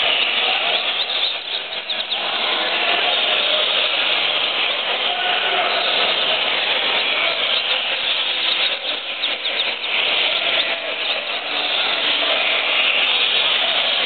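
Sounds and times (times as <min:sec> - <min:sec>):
caged birds chirping and trilling: 0:00.0 - 0:14.0.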